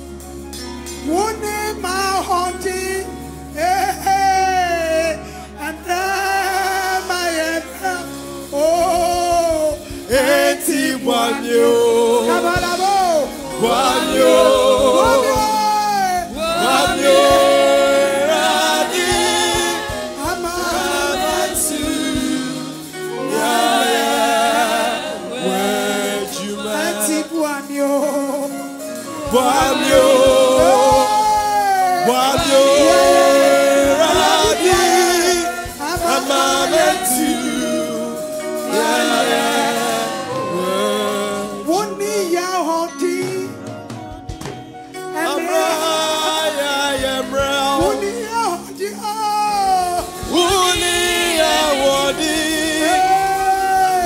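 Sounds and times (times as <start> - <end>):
musical accompaniment: 0.0 - 54.0
backing singers: 3.9 - 54.0.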